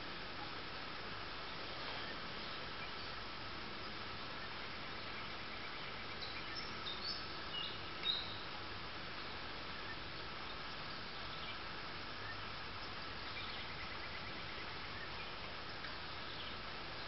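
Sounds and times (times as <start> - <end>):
faint insect-like hum: 0.0 - 17.0
steady outdoor hiss: 0.0 - 17.0.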